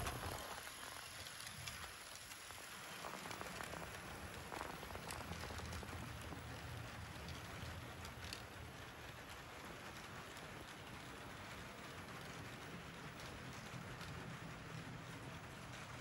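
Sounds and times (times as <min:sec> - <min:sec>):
model train wheels clattering: 0:00.0 - 0:16.0.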